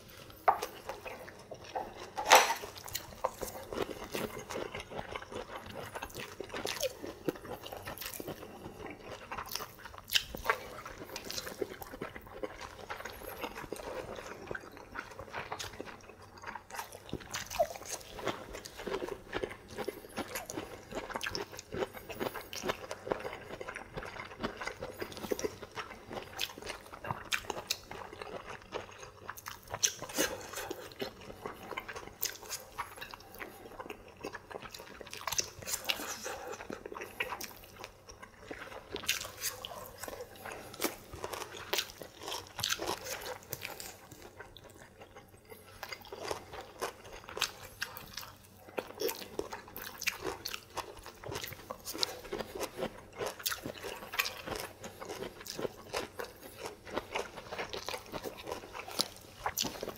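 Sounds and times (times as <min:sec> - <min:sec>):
people chewing and biting food: 0:00.0 - 0:59.9
crunching of vegetables: 0:00.1 - 0:59.9.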